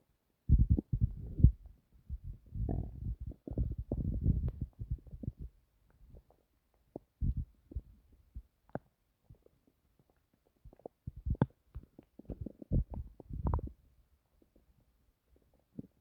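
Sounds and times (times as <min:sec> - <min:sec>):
stomach growling: 0:00.5 - 0:14.8, 0:15.4 - 0:16.0.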